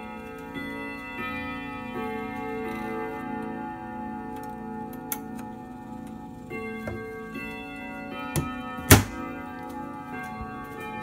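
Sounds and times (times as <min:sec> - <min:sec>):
clock chime rods ringing: 0:00.0 - 0:11.0.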